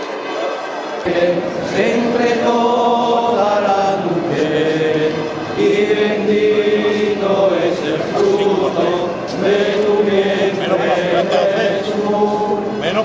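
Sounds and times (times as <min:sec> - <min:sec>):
crowd praying aloud in a chanting drone: 0:00.0 - 0:13.0.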